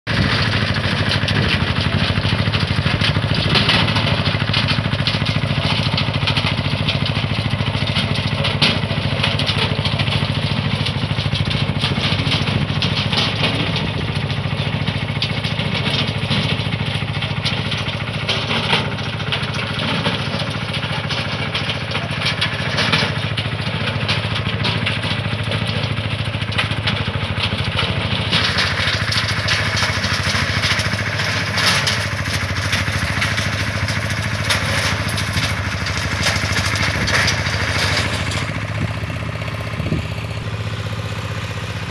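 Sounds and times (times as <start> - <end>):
tractor engine running under load: 0.1 - 41.9.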